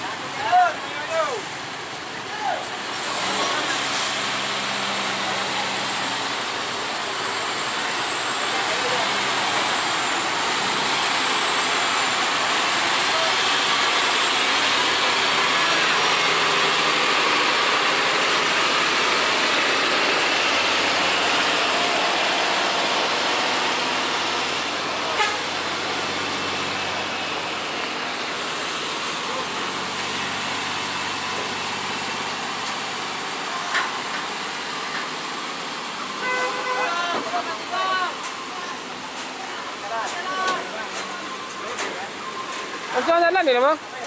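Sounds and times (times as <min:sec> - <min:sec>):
heavy truck traffic: 0:00.0 - 0:44.0.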